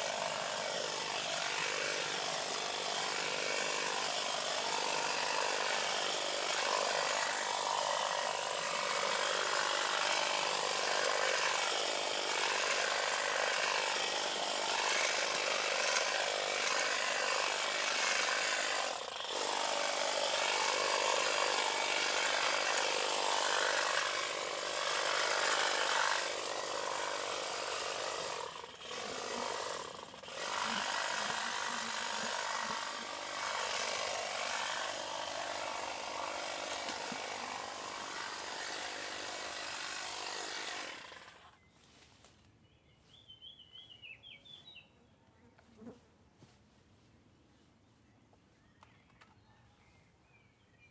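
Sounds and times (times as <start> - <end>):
saw cutting vine stems: 0.0 - 42.5.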